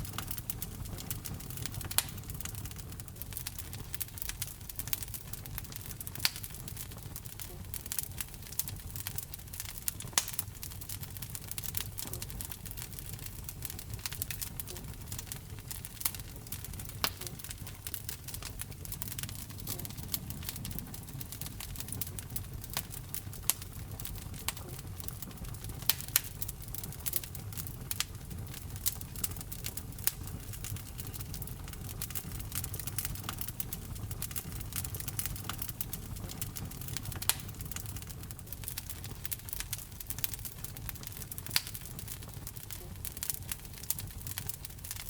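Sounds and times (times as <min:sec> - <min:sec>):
low rumble of flames: 0:00.0 - 0:45.0
wood fire crackling and popping: 0:00.0 - 0:45.0.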